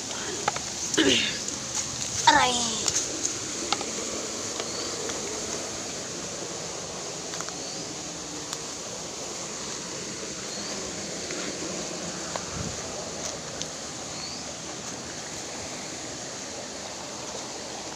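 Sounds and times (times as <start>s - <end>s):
creek water rushing: 0.0s - 17.9s.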